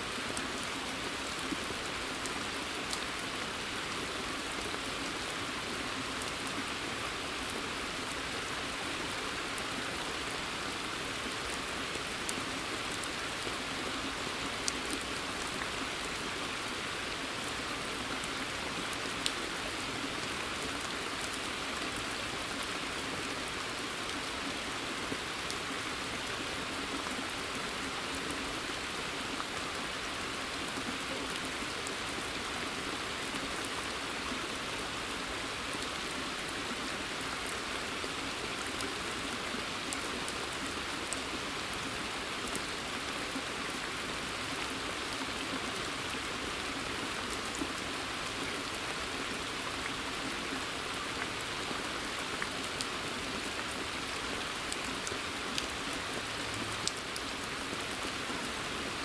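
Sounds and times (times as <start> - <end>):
rain hissing in forest: 0.0 - 59.0.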